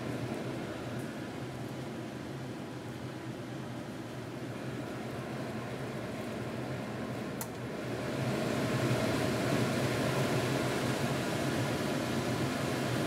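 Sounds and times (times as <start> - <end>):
exhaust fan running: 0.0 - 13.0.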